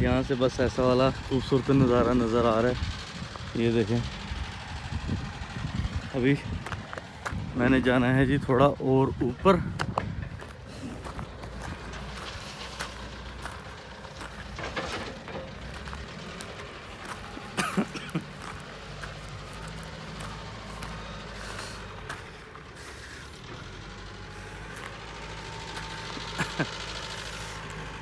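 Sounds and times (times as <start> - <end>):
distant heavy vehicle engine rumble: 0.0 - 28.0.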